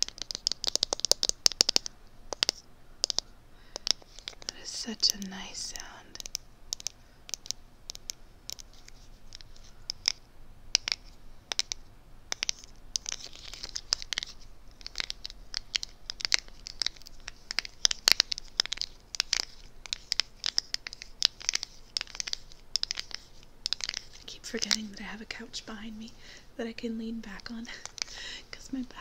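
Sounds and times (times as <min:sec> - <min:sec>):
hands handling packaging: 0:00.0 - 0:10.2, 0:10.8 - 0:24.9, 0:27.7 - 0:28.3.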